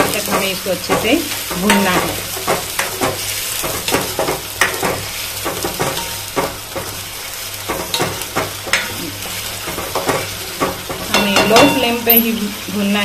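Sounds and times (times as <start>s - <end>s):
spatula scraping a pan: 0.0s - 12.9s
paste sizzling in hot oil: 0.0s - 13.0s.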